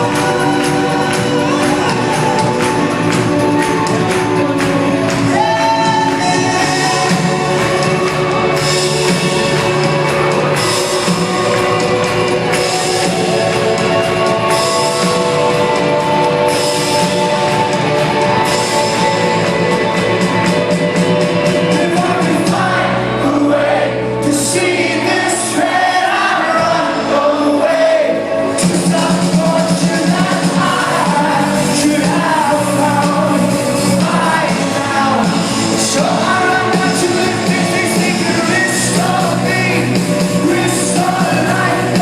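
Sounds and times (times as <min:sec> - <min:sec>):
person singing: 0:00.0 - 0:42.0
rock band playing: 0:00.0 - 0:42.0.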